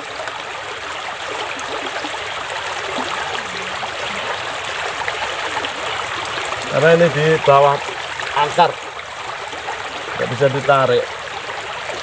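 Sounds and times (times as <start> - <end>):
shallow running water: 0.0 - 12.0.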